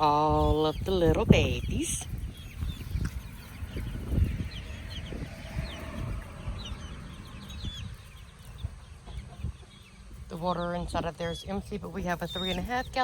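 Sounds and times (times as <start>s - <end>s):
low rumble: 0.0s - 11.2s
chicks peeping: 0.0s - 13.0s.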